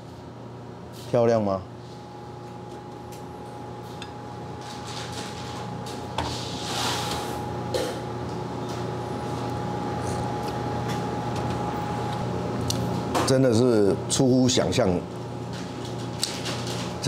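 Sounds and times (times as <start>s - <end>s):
steady room hum: 0.0s - 17.0s.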